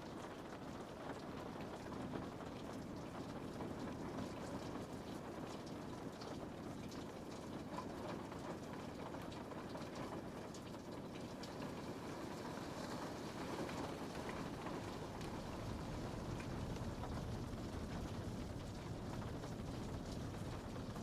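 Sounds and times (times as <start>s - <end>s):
rain on a window pane: 0.0s - 21.0s.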